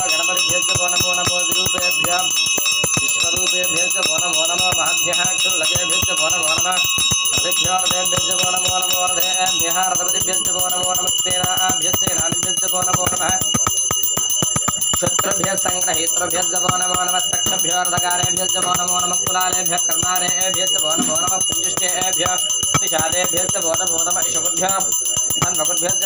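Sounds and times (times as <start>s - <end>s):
voices: 0.0s - 13.8s, 15.0s - 26.0s
hand bell ringing rapidly: 0.0s - 26.0s.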